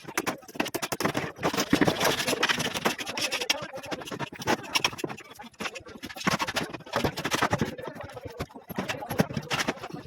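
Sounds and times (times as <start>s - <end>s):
formwork knocks and clatter: 0.0s - 10.0s
formwork scraping: 0.0s - 10.0s.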